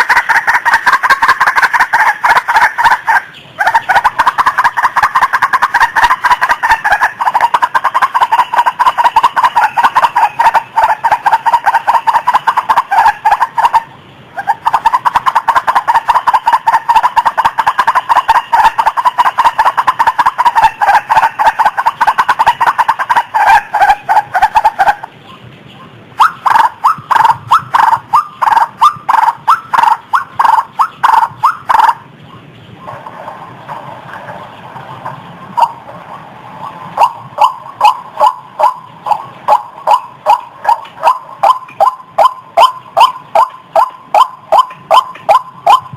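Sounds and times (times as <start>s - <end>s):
bird calling repeated notes: 0.0s - 33.8s, 34.4s - 35.9s, 36.6s - 45.9s.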